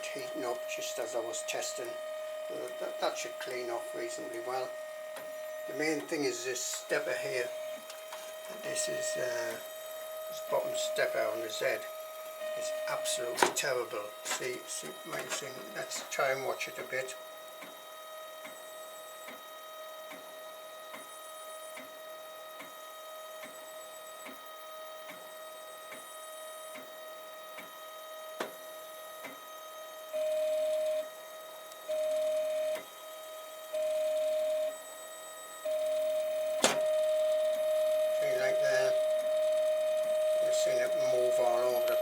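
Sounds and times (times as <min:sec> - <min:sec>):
stepper motors whining: 0:00.0 - 0:42.0.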